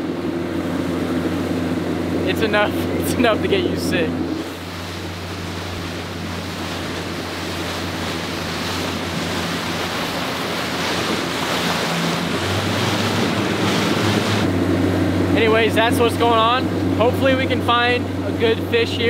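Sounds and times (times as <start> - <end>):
outboard motor drone: 0.0 - 19.0
water rushing and spraying off hull: 0.0 - 19.0.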